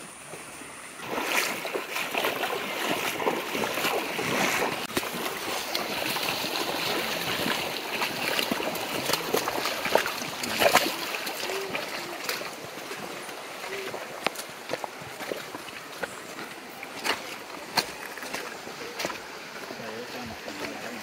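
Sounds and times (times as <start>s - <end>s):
footsteps splashing on stones: 1.0s - 21.0s
river rushing over rocks: 1.0s - 21.0s.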